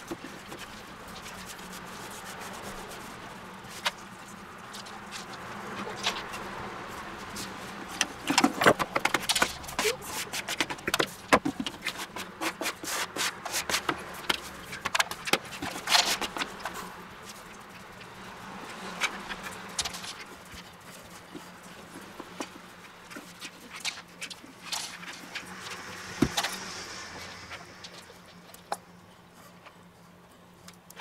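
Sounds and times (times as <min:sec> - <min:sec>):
hands working dough on board: 0:00.0 - 0:26.7.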